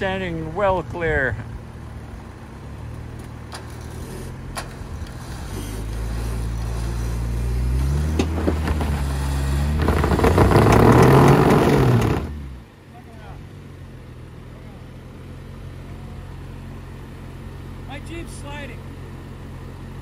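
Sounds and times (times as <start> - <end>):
car engine running under load: 0.0 - 20.0.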